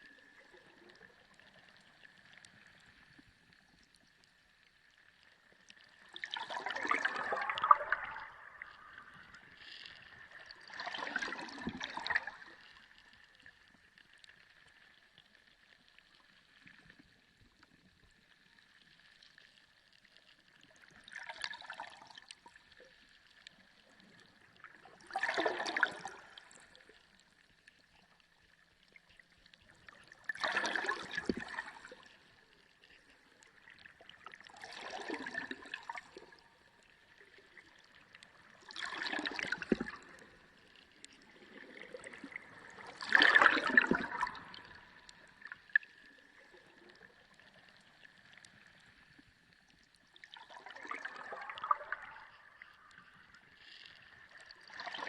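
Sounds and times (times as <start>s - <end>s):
sea water gurgling and sloshing: 0.0s - 55.0s.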